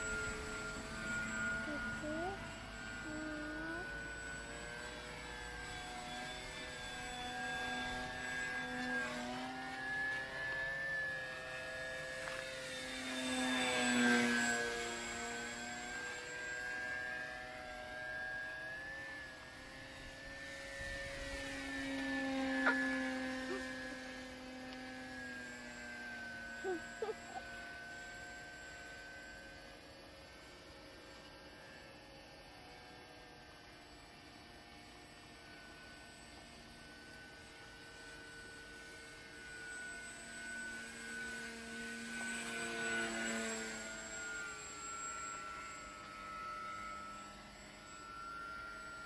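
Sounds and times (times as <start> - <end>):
model plane motor whine: 0.0 - 49.0.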